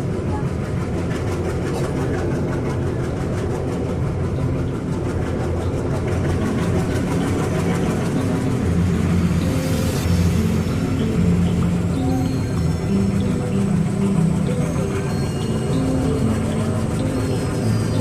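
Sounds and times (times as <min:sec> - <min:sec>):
heavy engine running: 0:00.0 - 0:18.0.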